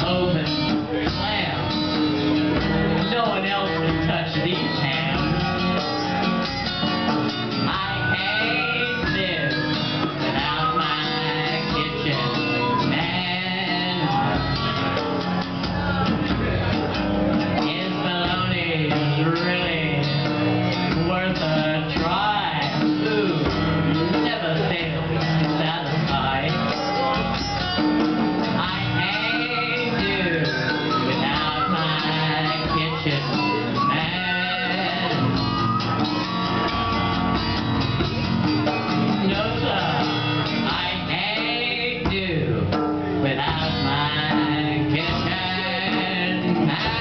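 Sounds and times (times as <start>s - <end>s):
hand drum beat: 0.0s - 47.0s
strummed acoustic guitar: 0.0s - 47.0s.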